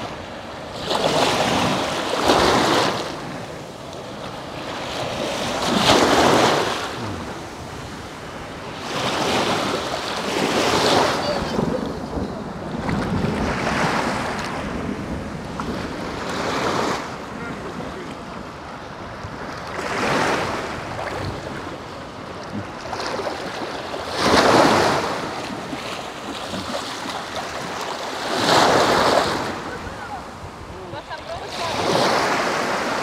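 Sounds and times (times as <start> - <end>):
small waves washing ashore: 0.0 - 33.0.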